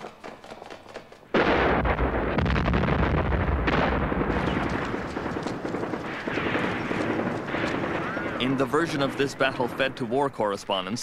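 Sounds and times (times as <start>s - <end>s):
gunfire clatter: 0.0s - 10.4s
rumble of explosions: 1.3s - 11.0s.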